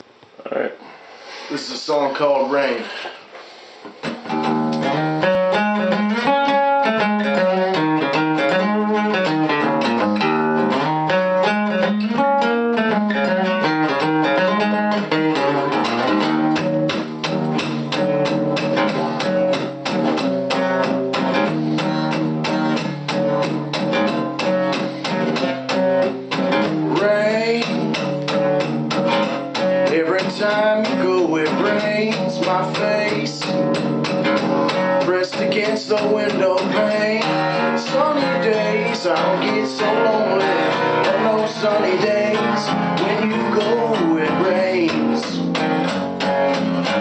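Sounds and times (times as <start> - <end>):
guitar plucked notes: 4.0 - 47.0.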